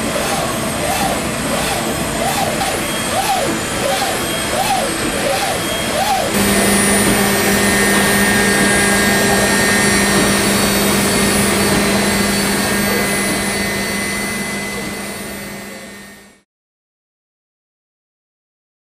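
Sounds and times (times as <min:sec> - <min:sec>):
constant hum: 0:00.0 - 0:16.4
high machine whine: 0:00.0 - 0:16.4
machining centre rushing noise: 0:00.0 - 0:16.4.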